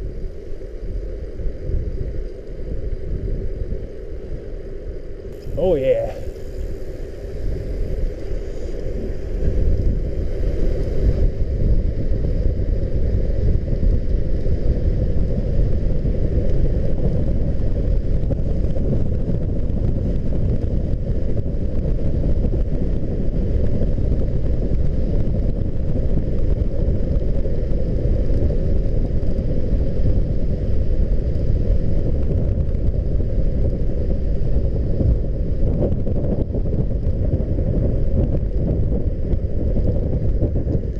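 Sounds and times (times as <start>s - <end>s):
bicycle tyres rolling: 0.0s - 40.9s
wind buffeting microphone: 0.0s - 40.9s.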